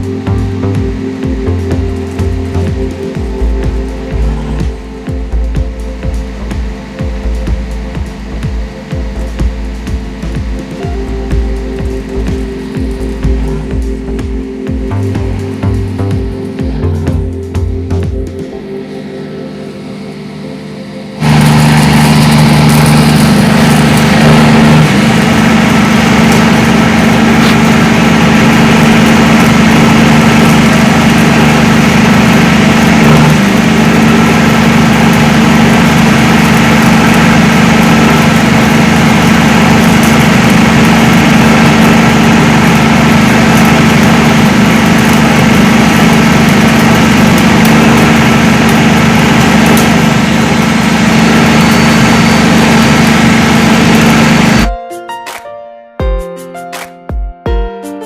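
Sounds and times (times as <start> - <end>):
engine running steadily: 0.0 - 54.7.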